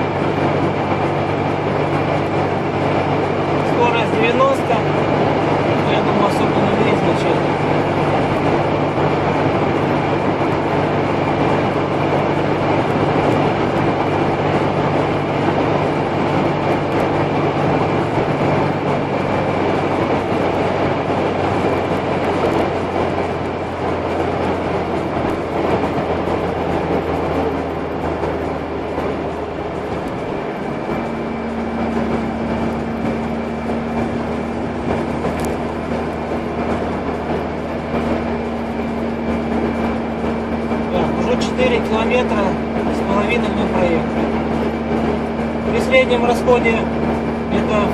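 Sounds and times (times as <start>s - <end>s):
car engine: 0.0s - 47.9s
road noise: 0.0s - 47.9s.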